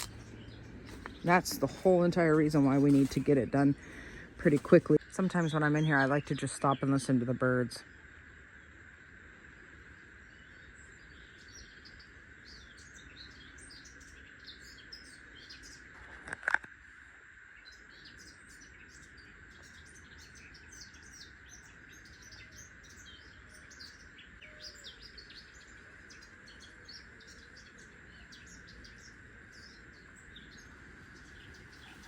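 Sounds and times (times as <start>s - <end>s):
small birds chirping: 0.0s - 7.8s, 10.3s - 16.6s, 17.6s - 32.0s
faint high-pitched hum: 0.0s - 32.0s.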